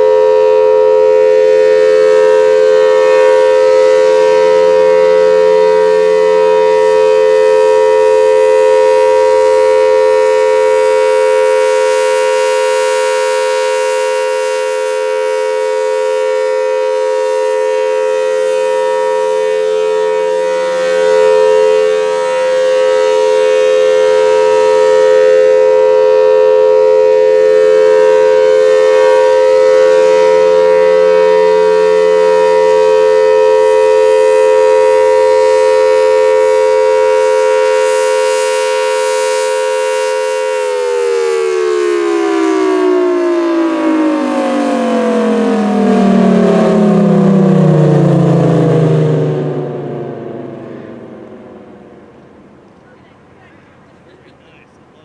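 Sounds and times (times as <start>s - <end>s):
tornado siren steady tone: 0.0s - 55.0s.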